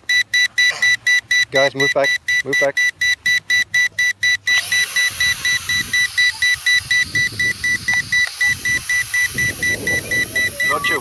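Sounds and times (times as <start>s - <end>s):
remote control beeping: 0.0s - 11.0s
steady hiss and rumble: 0.0s - 11.0s.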